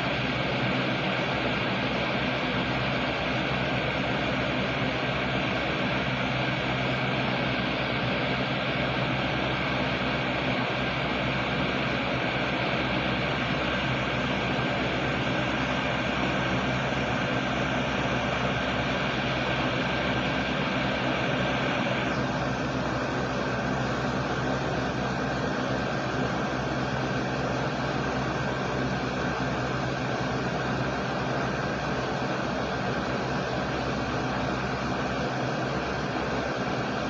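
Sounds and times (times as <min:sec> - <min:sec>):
mechanical hum with hiss: 0:00.0 - 0:37.0.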